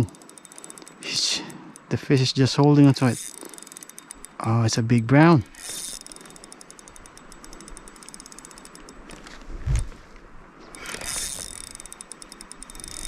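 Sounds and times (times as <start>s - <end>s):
fishing reel ratchet clicking: 0.0s - 9.4s, 10.6s - 13.0s.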